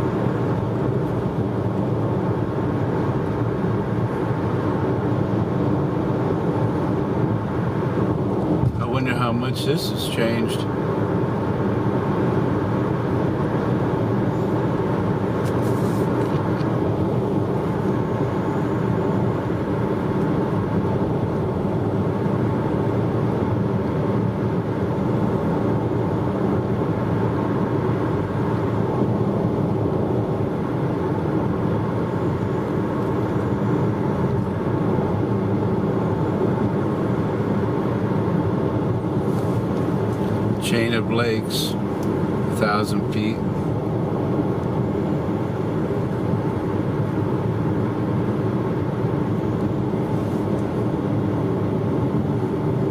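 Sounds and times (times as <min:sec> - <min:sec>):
car cabin road noise: 0:00.0 - 0:52.9.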